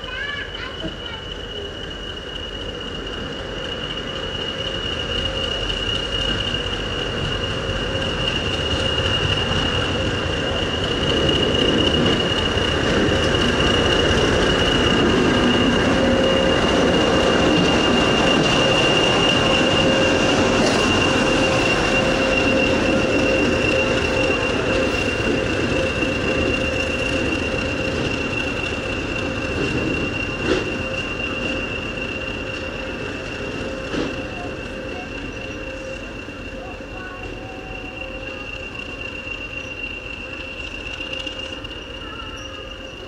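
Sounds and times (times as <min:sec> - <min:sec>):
diesel locomotive engine: 0:00.0 - 0:43.0
high whistle: 0:00.2 - 0:43.0.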